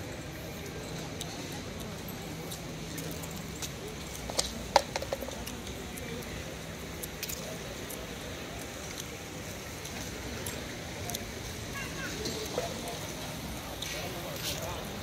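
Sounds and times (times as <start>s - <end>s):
street background hush: 0.0s - 15.0s.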